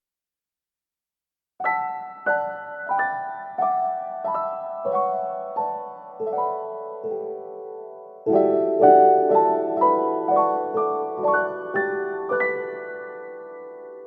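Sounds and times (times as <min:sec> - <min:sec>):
slow gentle piano piece: 0:01.6 - 0:14.0.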